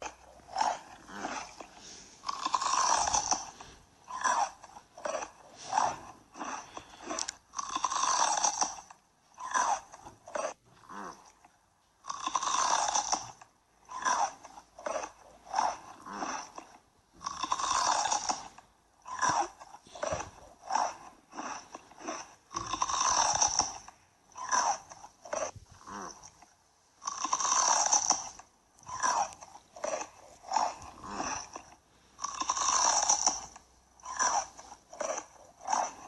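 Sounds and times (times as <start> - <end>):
crunchy biting and chewing: 0.0 - 36.0.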